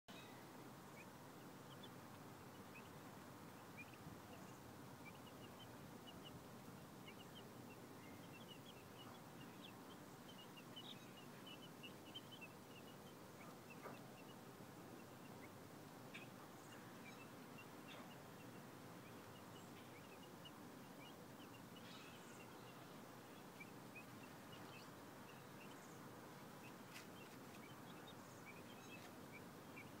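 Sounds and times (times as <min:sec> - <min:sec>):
steady low hiss: 0:00.1 - 0:30.0
chicks peeping: 0:00.2 - 0:30.0.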